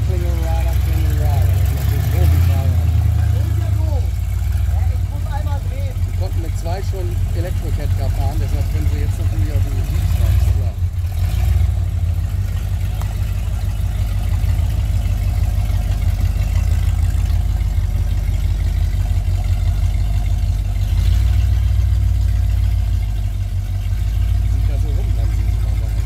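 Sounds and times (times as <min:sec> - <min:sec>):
engine rumbling at low revs: 0:00.0 - 0:26.0.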